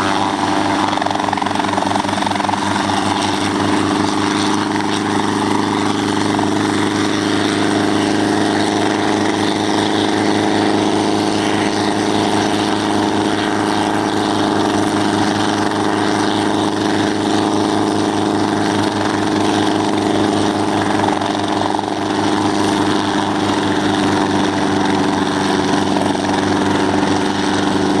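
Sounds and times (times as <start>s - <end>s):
helicopter engine and rotor drone: 0.0s - 28.0s.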